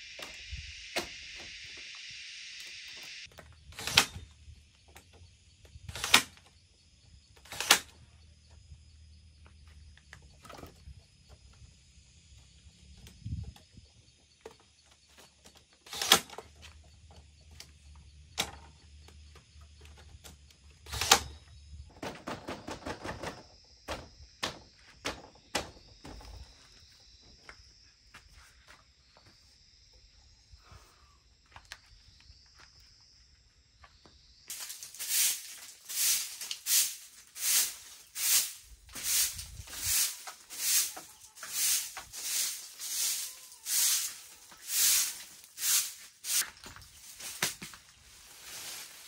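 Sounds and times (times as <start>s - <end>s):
high insect drone: 0.0s - 22.0s, 22.6s - 49.0s.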